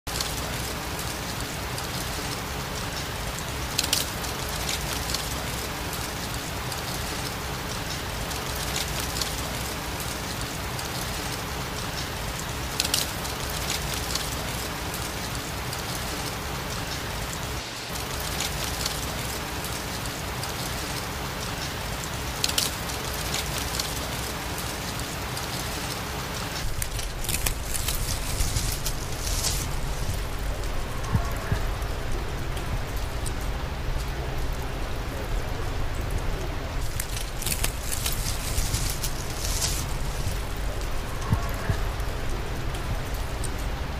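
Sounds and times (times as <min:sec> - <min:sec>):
leaves rustling: 0:00.1 - 0:43.9
sharper leaf rustle: 0:00.1 - 0:43.9.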